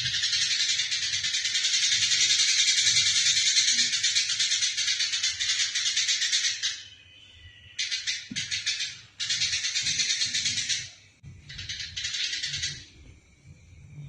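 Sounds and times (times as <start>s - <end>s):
sparrows chattering: 0.0s - 13.0s.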